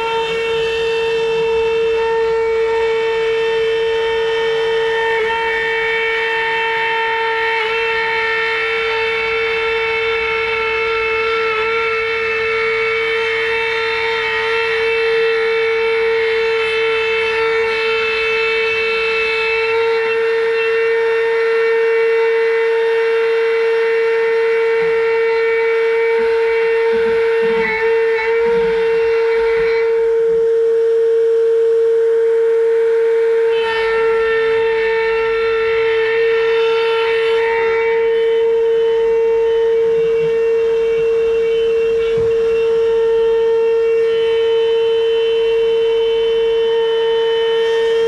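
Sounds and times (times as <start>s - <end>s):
router spindle whining: 0.0s - 48.0s.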